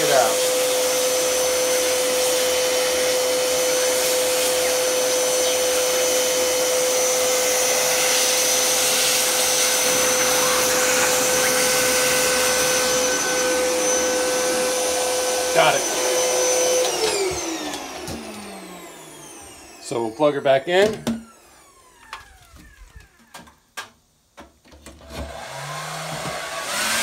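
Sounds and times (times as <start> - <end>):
vacuum cleaner whining: 0.0 - 23.6, 25.0 - 27.0.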